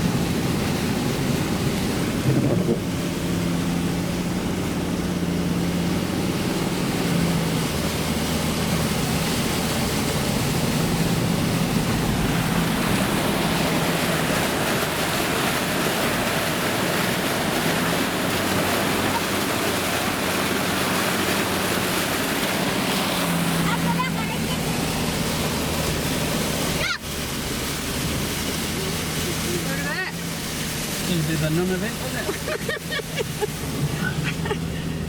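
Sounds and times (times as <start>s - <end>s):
vehicle engine running: 0.0s - 35.0s
water rushing and splashing: 0.0s - 35.0s.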